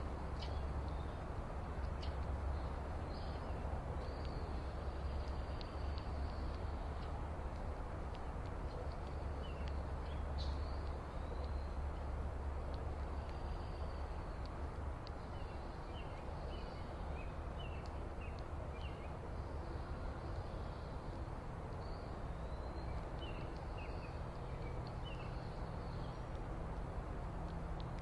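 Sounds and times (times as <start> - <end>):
low outdoor background rumble: 0.0 - 28.0
songbirds chirping: 0.0 - 28.0.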